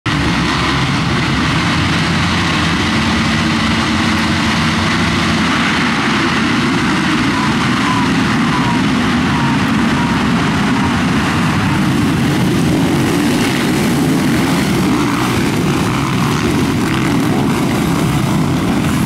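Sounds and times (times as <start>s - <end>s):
many motocross engines revving: 0.1s - 19.0s
single motorbike revving: 0.1s - 19.0s.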